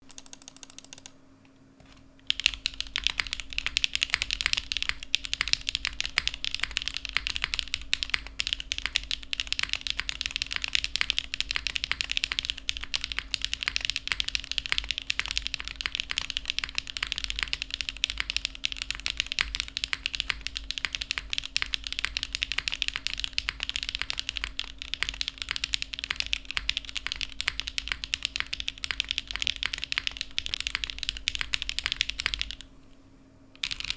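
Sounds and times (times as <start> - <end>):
mechanical keyboard typing: 0.0 - 1.2, 1.8 - 32.7, 33.6 - 33.9
faint steady hum: 0.0 - 33.9.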